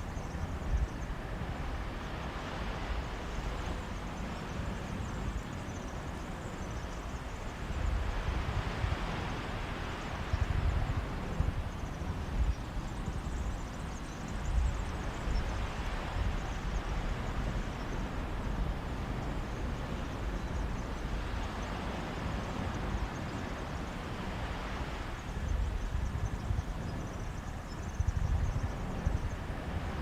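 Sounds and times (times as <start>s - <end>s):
sea breeze rumble: 0.0s - 30.0s
waves washing onto beach: 0.0s - 30.0s.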